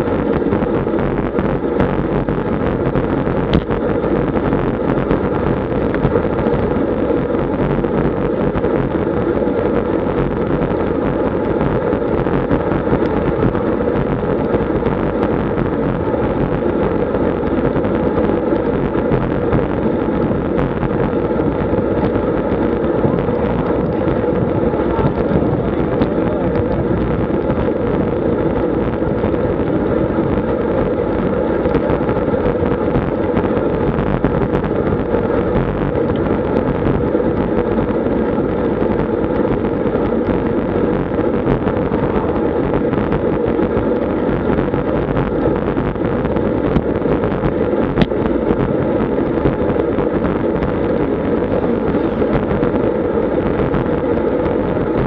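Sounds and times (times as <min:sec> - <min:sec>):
bicycle tyre and road noise: 0:00.0 - 0:55.0
wind rush on microphone: 0:00.0 - 0:55.0.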